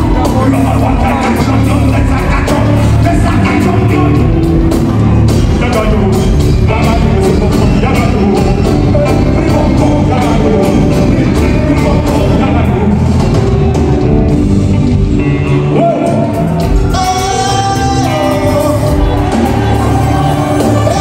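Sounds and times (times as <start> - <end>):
live band music with singing: 0.0 - 21.0.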